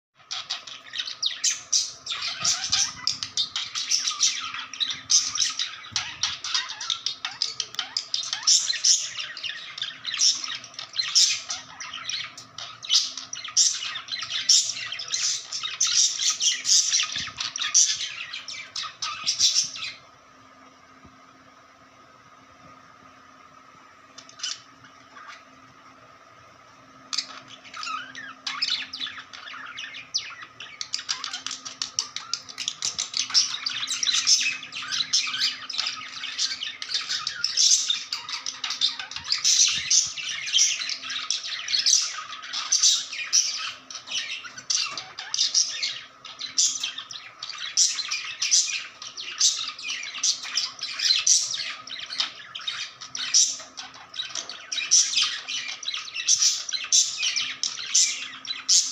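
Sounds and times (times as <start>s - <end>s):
faint steady hum: 0.2s - 58.9s.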